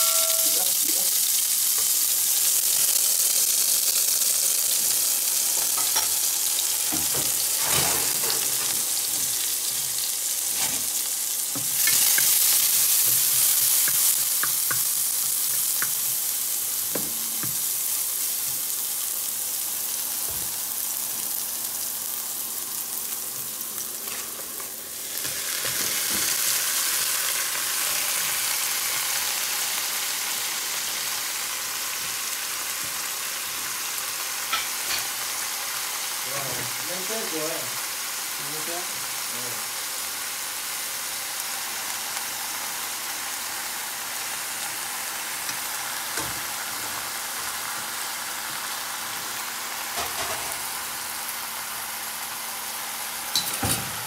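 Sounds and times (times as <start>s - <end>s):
garlic sizzling in hot oil: 0.0s - 54.0s.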